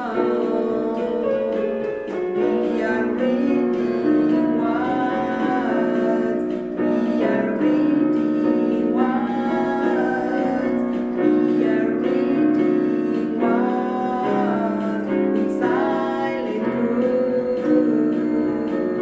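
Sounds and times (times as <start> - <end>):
keyboard accompaniment: 0.0 - 19.0
woman singing children's song: 0.0 - 19.0.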